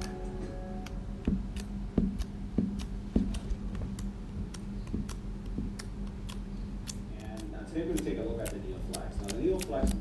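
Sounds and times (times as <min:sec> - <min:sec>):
steady low hum: 0:00.0 - 0:10.0
light regular ticking: 0:00.8 - 0:10.0.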